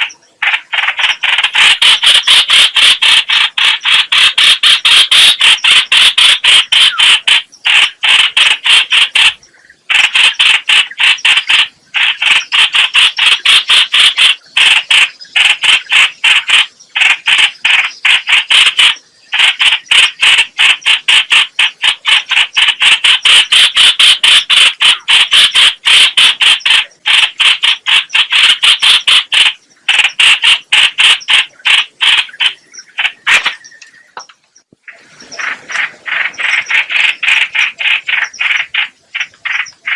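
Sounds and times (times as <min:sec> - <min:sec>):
bird chattering sharp notes: 0:00.0 - 0:39.9.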